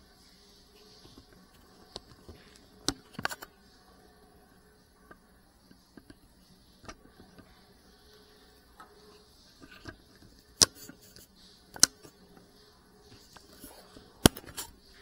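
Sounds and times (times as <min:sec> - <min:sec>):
faint high-pitched hiss: 0:00.0 - 0:15.0.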